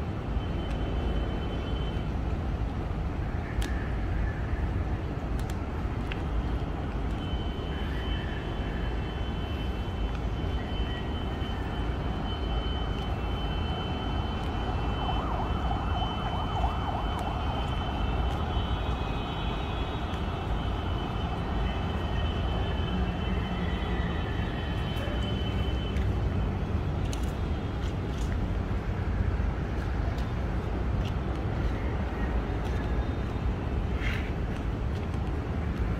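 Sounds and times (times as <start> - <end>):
city traffic rumble: 0.0 - 35.9.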